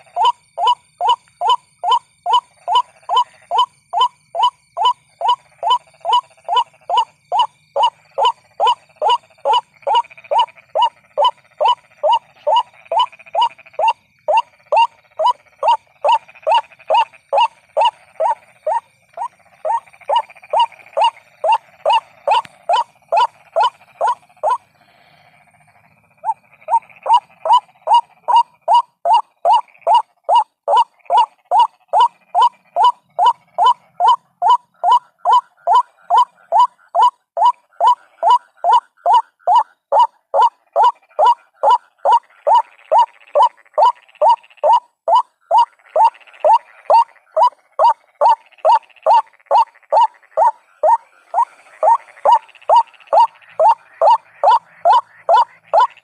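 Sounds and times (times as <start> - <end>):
waterhen call: 0.0 - 56.0.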